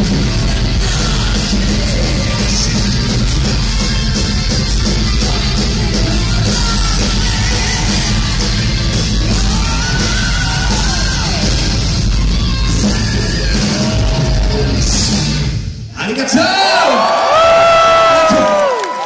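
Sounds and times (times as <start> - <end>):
metal band playing live: 0.0 - 15.7.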